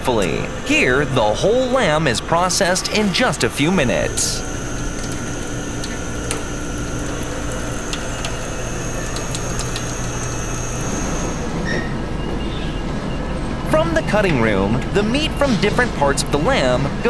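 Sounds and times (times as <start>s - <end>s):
high mechanical whine: 0.0s - 17.0s
machinery humming: 0.0s - 17.0s.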